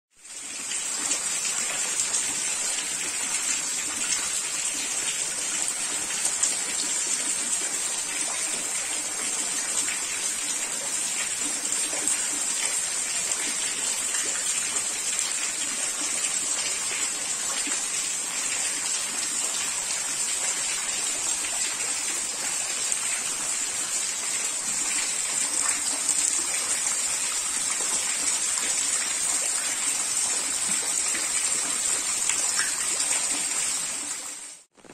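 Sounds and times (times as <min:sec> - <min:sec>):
runoff streaming off a roof: 0:00.2 - 0:34.9.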